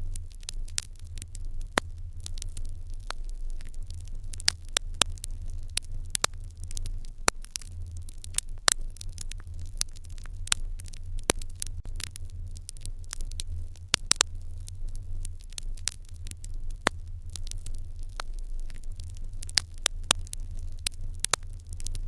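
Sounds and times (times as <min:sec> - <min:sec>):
fire crackling and popping: 0:00.0 - 0:22.0
fire low rumble: 0:00.0 - 0:22.0.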